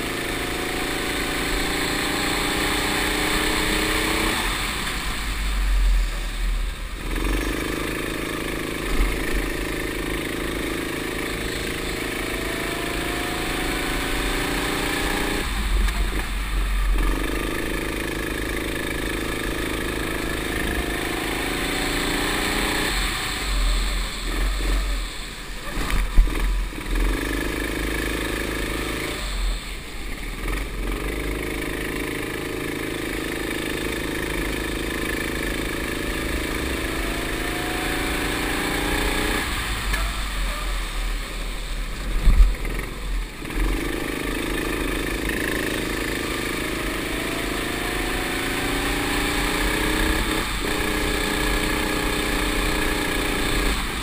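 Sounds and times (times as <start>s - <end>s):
kart engine accelerating: 0.0s - 54.0s.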